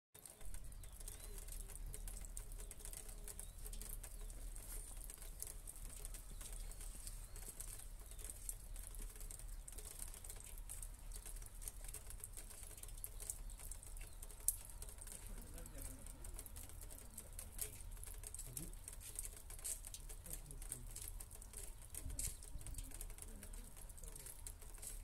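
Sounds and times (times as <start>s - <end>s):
raindrops ticking on wood and tiles: 0.2s - 25.0s.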